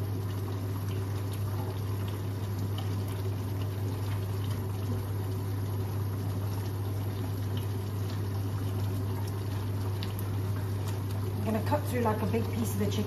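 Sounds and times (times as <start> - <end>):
curry bubbling in a pot: 0.0 - 13.0
steady low hum: 0.0 - 13.0.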